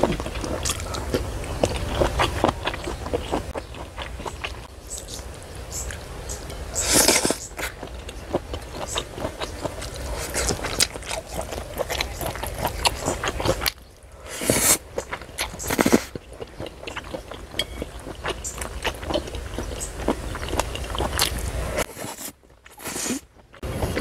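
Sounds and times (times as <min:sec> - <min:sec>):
close chewing and biting: 0:00.0 - 0:05.2, 0:06.8 - 0:24.0.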